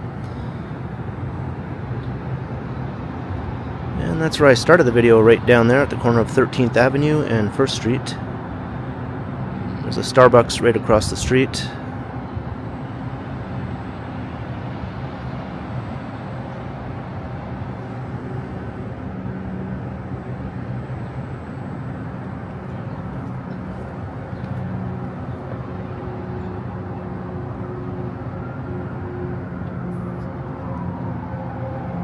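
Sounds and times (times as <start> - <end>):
city street traffic hum: 0.0 - 32.0.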